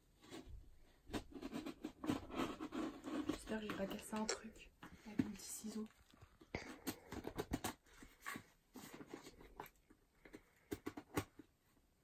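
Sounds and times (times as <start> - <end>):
small irregular clicks and taps: 1.1 - 11.5.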